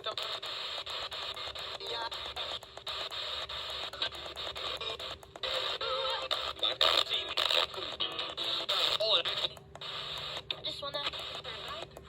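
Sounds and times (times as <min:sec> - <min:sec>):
faint broken radio audio: 0:00.0 - 0:12.0
radio static hissing and crackling: 0:00.0 - 0:12.0.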